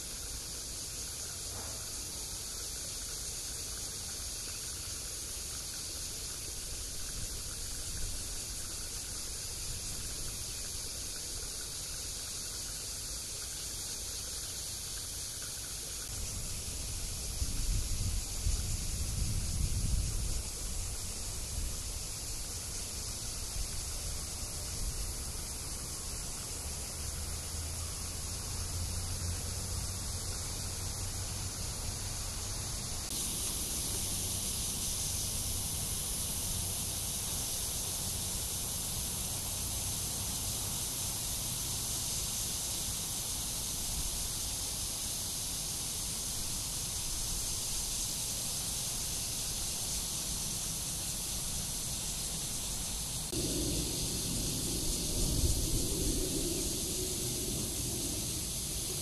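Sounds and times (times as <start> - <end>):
cicadas droning: 0.0 - 59.0.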